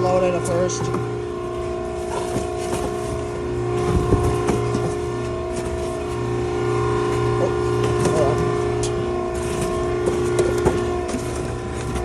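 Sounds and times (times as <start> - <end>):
hydraulic power unit humming: 0.0 - 12.0.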